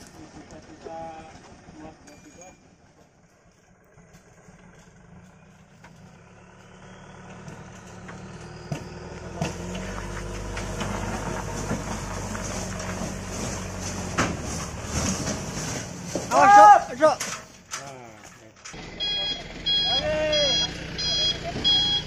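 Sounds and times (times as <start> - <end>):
diesel truck engine running: 0.0 - 16.3, 18.6 - 22.0.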